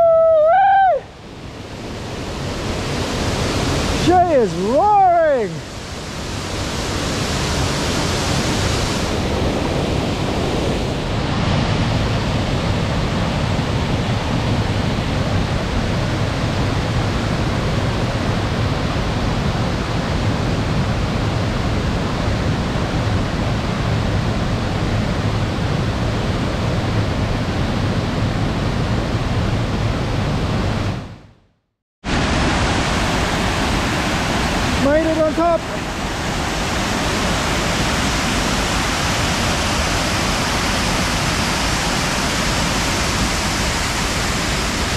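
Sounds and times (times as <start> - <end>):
waterfall roar: 0.0 - 30.9, 32.1 - 44.9.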